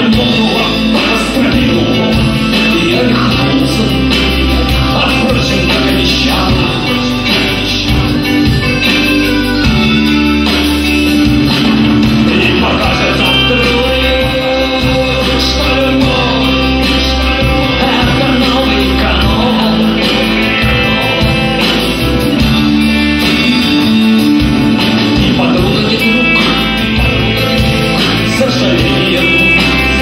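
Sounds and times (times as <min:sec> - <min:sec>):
accordion: 0:00.0 - 0:30.0
bass guitar: 0:00.0 - 0:30.0
drums: 0:00.0 - 0:30.0
electric guitars: 0:00.0 - 0:30.0.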